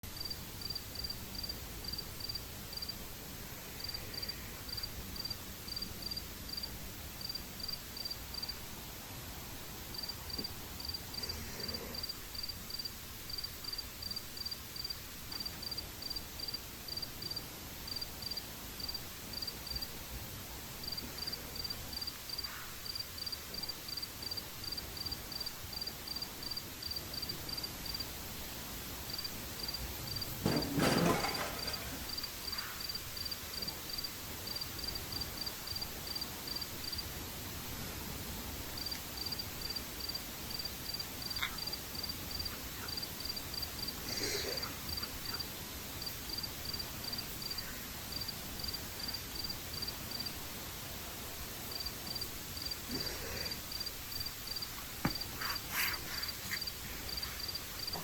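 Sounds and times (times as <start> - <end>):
crickets chirping: 0.2 - 3.0, 3.7 - 8.6, 9.9 - 19.9, 20.8 - 28.1, 29.1 - 37.1, 38.7 - 50.5, 51.4 - 58.0.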